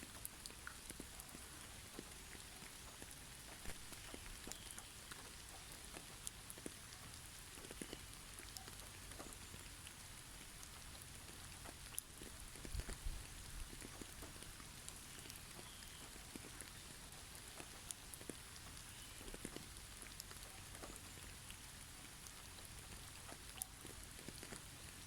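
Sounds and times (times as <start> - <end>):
snowfall patter on trees: 0.0 - 25.0.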